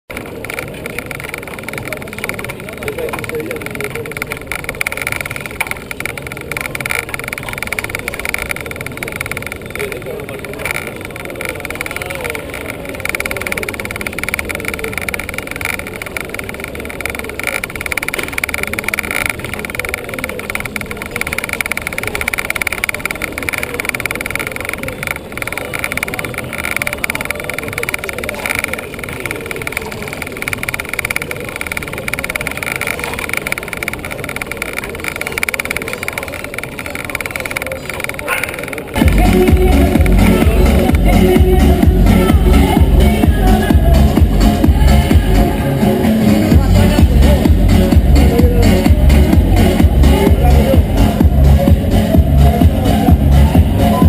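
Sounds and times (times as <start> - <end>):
mechanical drone with rattling flutter: 0.1 - 54.0
steady high hum: 0.1 - 54.0.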